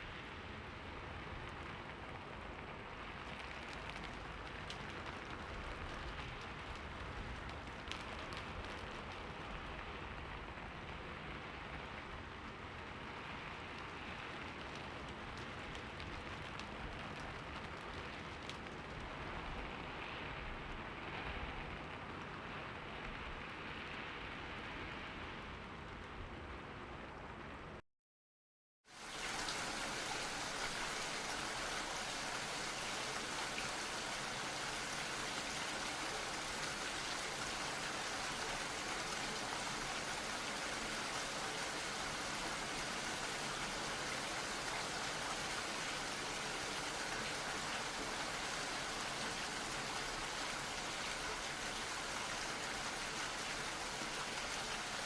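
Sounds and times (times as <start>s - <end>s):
steady rainfall hiss: 0.0s - 27.7s, 28.9s - 55.0s
faint raindrop ticks: 1.0s - 24.8s, 29.0s - 55.0s.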